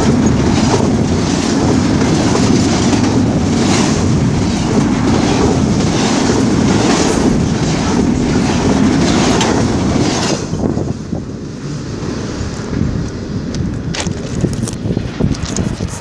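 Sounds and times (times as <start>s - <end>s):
train wheels clattering over rail joints: 0.0s - 16.0s.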